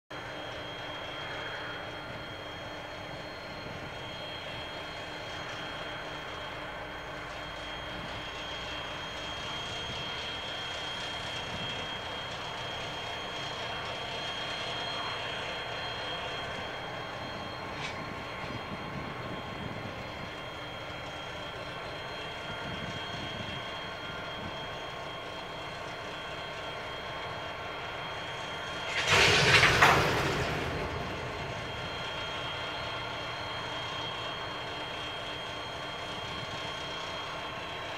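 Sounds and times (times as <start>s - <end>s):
diesel locomotives running: 0.1s - 37.9s.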